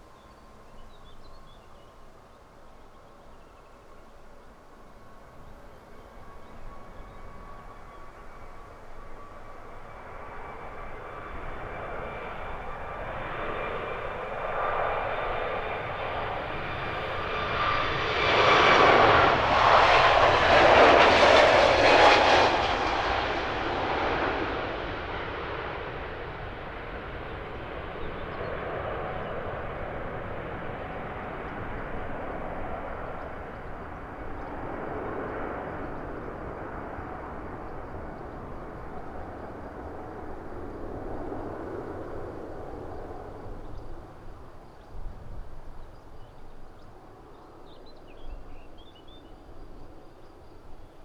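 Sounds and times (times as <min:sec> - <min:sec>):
jet engines at take-off: 0:00.0 - 0:51.0.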